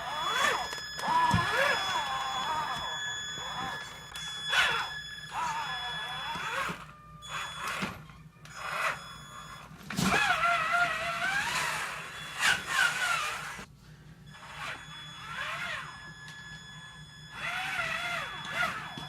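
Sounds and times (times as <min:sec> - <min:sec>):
electric motor whining: 0:00.0 - 0:13.7, 0:14.3 - 0:19.0.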